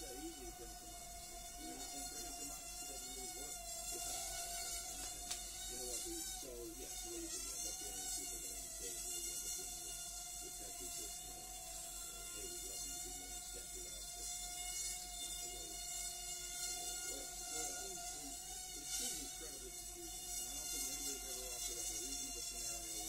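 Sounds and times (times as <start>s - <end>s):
small drone motors buzzing: 0.0s - 23.0s.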